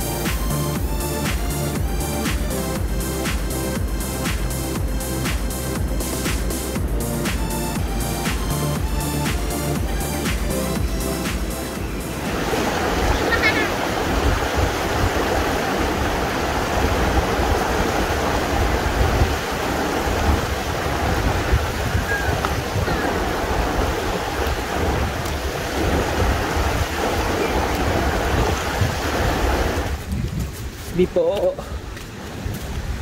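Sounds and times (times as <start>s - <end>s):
river water rushing over rocks: 0.0s - 30.1s.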